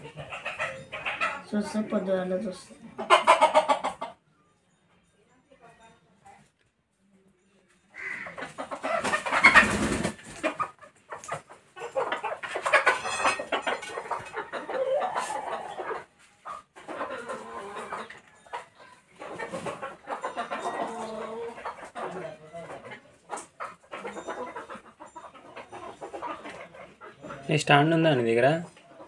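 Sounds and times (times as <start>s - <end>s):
chickens clucking: 0.0s - 4.6s, 7.9s - 29.0s.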